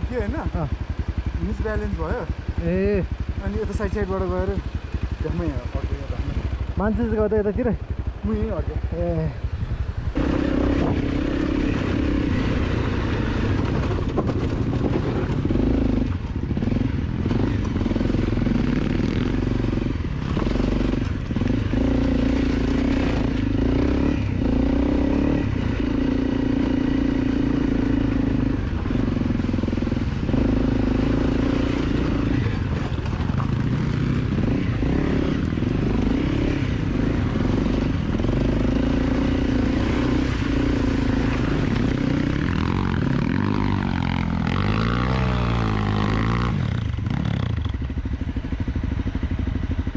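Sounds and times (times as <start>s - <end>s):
dirt bike engine under throttle: 0.0s - 49.9s.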